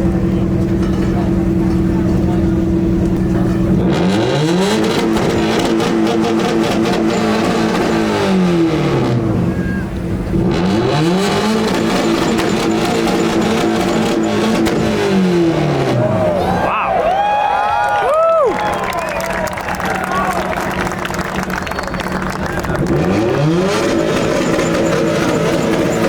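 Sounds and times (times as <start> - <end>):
rapid exhaust popping: 0.0 - 16.3, 20.3 - 26.0
car engine revving: 0.0 - 16.7, 20.6 - 26.0.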